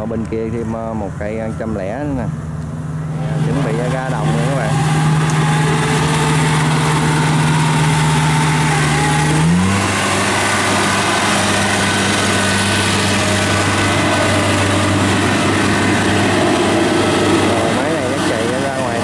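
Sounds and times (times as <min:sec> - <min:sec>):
diesel engines droning: 0:00.0 - 0:19.0.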